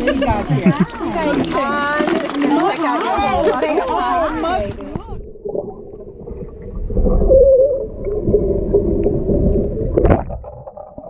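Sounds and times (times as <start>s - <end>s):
underwater bubbling and sloshing: 0.0s - 11.0s.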